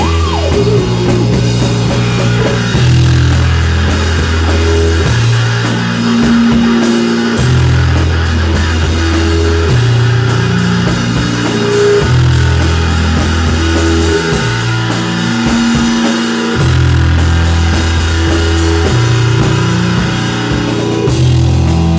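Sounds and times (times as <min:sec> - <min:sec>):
drum kit steady beat: 0:00.0 - 0:21.9
electric guitar: 0:00.0 - 0:21.9
rock band playing: 0:00.0 - 0:21.9.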